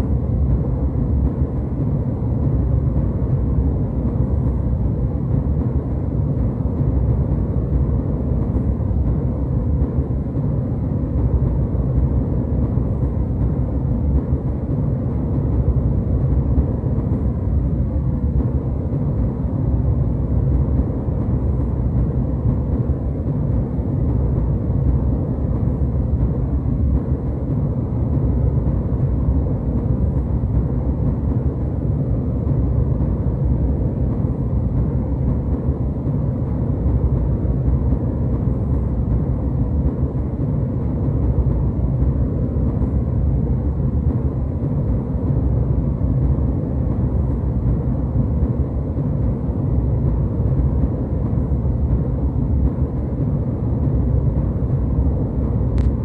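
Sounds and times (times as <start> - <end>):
jetliner cabin noise: 0.0 - 56.0.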